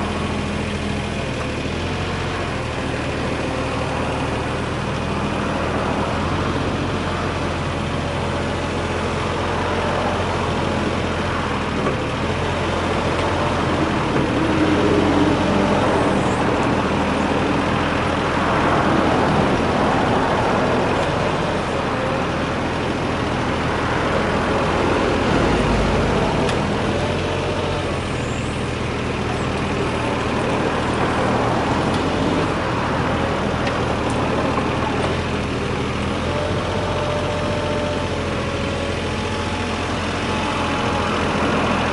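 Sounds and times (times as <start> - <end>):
diesel excavator engine running: 0.0 - 41.9.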